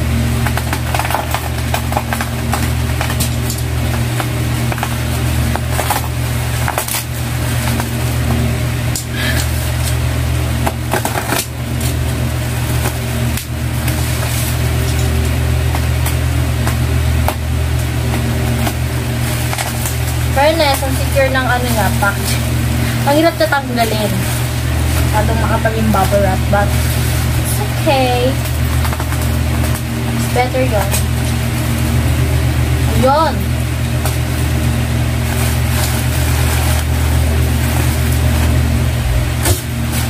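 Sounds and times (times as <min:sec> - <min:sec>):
loud steady low hum: 0:00.0 - 0:40.0
bubble wrap crinkling: 0:00.4 - 0:40.0.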